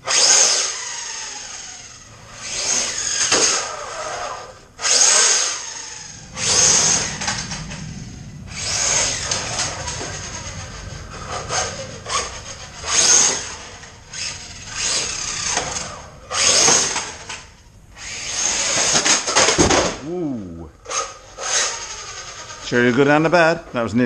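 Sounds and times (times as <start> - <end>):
electric motor whining: 0.0 - 23.3.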